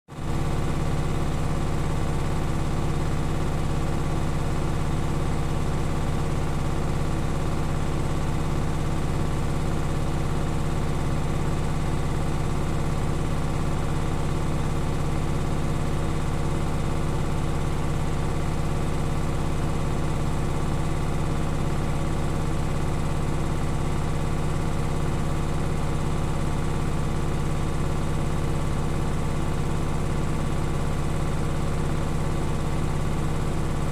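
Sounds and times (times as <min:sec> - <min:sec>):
washing machine spin hum: 0:00.1 - 0:33.9.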